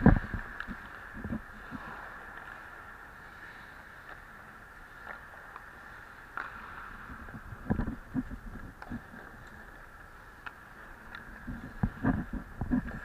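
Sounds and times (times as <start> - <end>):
ice skates scraping: 0.0 - 13.0
sticks and puck clacking on ice: 0.0 - 13.0.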